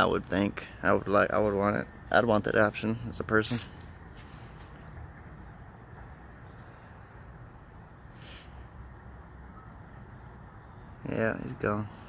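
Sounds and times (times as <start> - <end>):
crickets chirping: 0.0 - 12.0
low outdoor background noise: 0.0 - 12.0.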